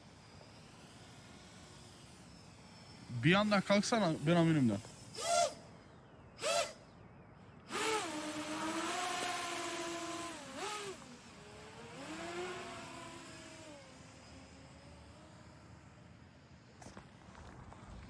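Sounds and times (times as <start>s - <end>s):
quadcopter electric motors whining: 0.0s - 18.0s.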